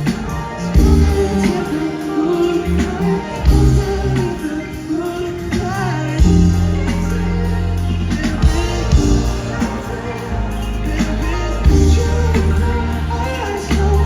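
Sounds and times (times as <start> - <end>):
live pop band music: 0.0 - 14.0.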